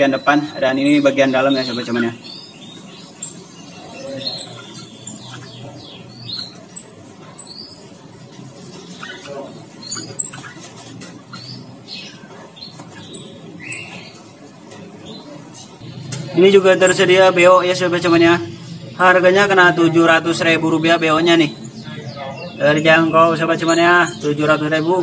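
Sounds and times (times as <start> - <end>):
birds fluttering in cages: 0.0 - 25.0
songbirds chirping and whistling: 0.0 - 25.0.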